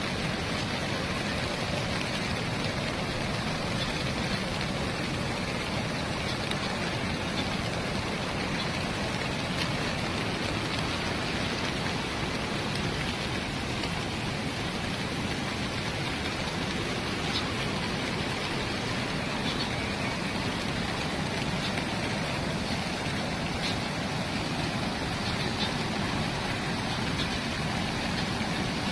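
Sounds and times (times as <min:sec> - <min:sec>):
water rushing through flood gates: 0:00.0 - 0:28.9.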